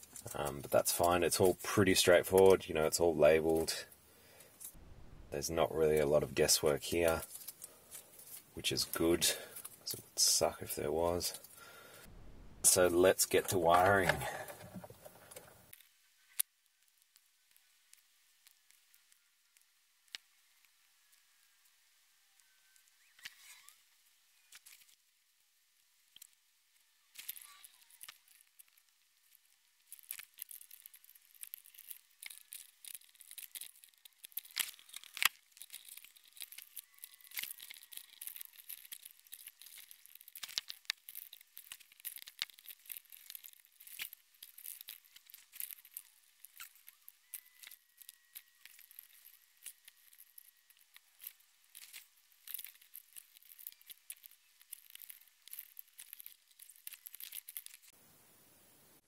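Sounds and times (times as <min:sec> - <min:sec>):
wires and plastic connectors clicking: 0:00.0 - 0:21.3, 0:22.4 - 0:23.8, 0:24.5 - 0:25.0, 0:26.0 - 0:58.0.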